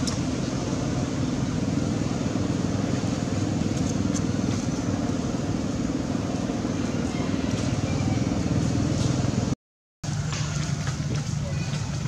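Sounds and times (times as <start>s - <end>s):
steady low rumble: 0.0s - 11.7s.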